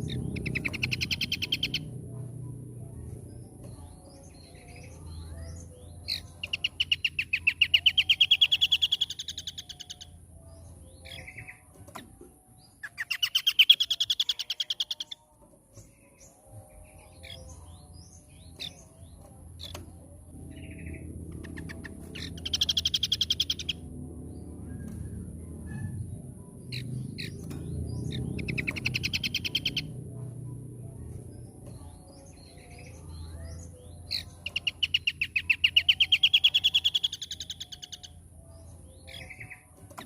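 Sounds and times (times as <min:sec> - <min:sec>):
bird singing rising trills: 0:00.0 - 0:02.3, 0:03.3 - 0:11.6, 0:15.8 - 0:39.8.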